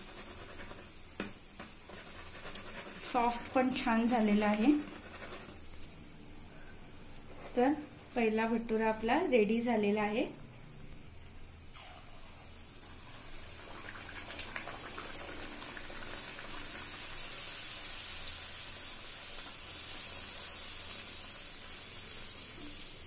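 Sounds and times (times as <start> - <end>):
small crackles of frying: 0.0 - 9.3, 12.3 - 23.0
dough sizzling in hot oil: 0.0 - 10.2, 11.6 - 23.0.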